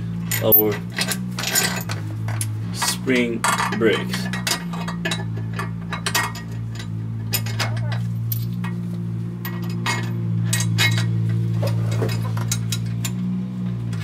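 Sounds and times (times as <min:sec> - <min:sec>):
steady low hum: 0:00.0 - 0:14.0
metal tool clinking and tapping: 0:00.3 - 0:08.8, 0:09.4 - 0:13.2.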